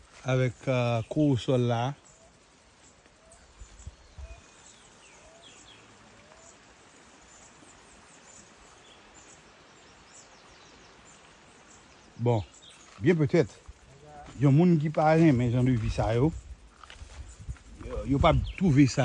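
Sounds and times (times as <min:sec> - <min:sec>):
distant birds chirping: 0:00.0 - 0:19.0
steady low hiss: 0:00.0 - 0:19.0.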